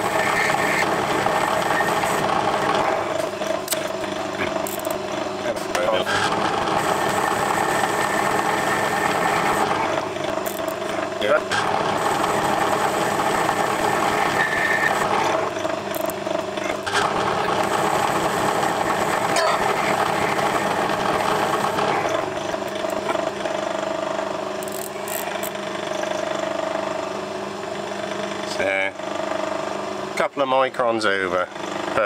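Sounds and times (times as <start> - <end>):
metal lathe running: 0.0 - 27.9.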